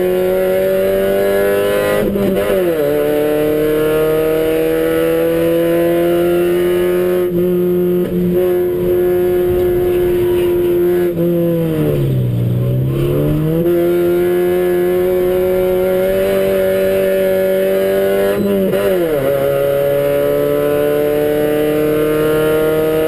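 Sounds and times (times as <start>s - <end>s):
race car engine at high revs: 0.0s - 23.0s.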